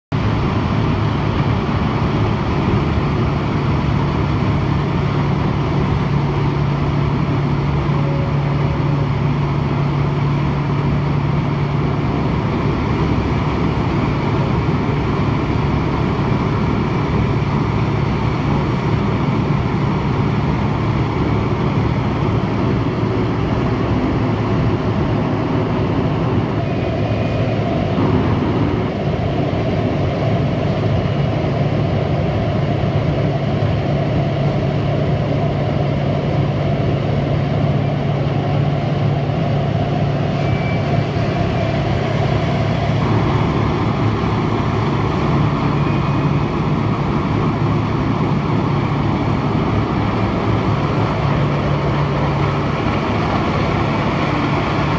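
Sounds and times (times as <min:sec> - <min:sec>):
diesel engine: 0:00.0 - 0:54.9.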